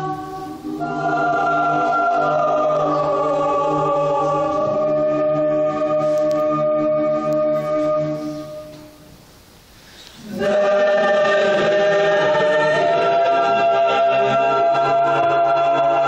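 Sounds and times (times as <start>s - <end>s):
mixed choir singing a cappella: 0.0s - 8.9s, 10.2s - 16.0s.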